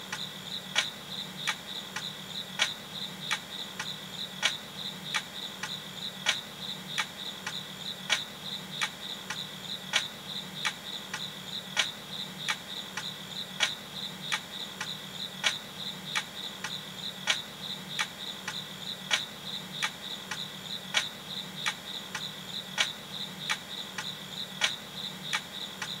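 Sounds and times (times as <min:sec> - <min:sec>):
crickets chirping: 0:00.0 - 0:26.0
sharp ticks: 0:00.0 - 0:26.0.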